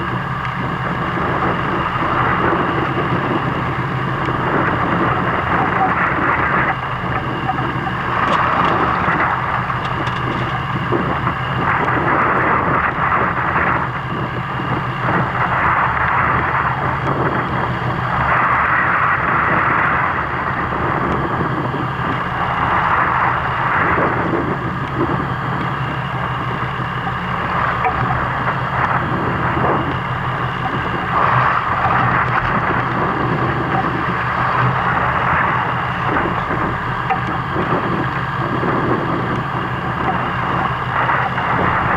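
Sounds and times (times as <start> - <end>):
boat engine running: 0.0 - 41.9
rushing wind and water: 0.0 - 41.9.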